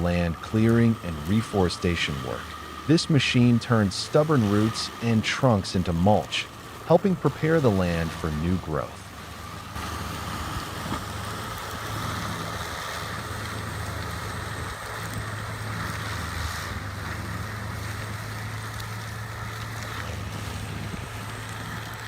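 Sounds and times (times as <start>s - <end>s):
forestry mulcher running: 0.0s - 22.0s.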